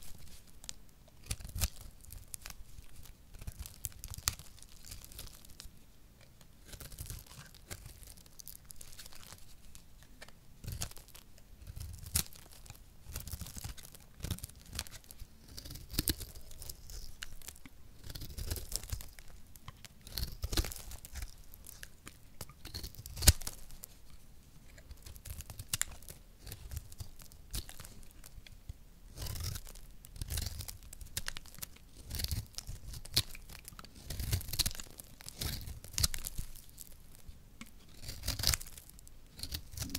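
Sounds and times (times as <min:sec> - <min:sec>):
knife scraping dry soap: 0:00.0 - 0:39.9.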